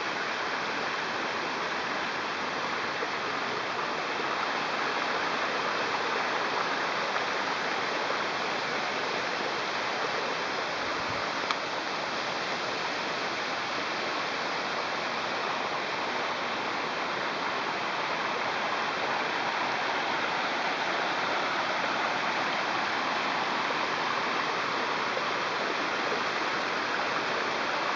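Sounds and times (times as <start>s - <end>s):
waterfall rushing onto rocks: 0.0s - 27.9s.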